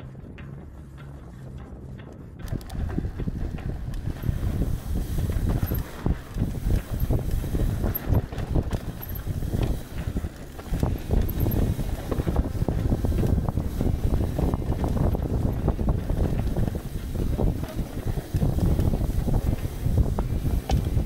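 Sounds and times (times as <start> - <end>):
wind noise on microphone: 0.0 - 21.0
bike rattling over roots: 2.4 - 21.0.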